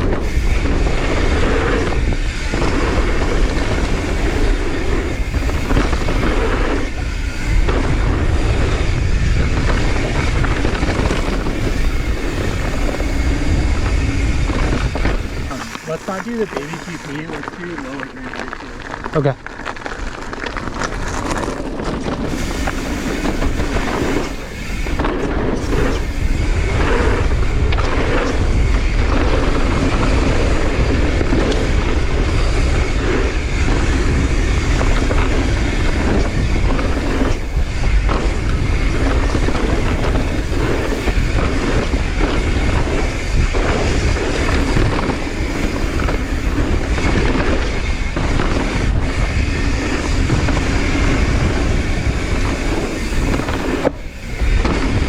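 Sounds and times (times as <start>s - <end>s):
bike frame and chain rattling: 0.0s - 55.0s
tyres rumbling over dirt: 0.0s - 55.0s
wind buffeting microphone: 0.0s - 55.0s.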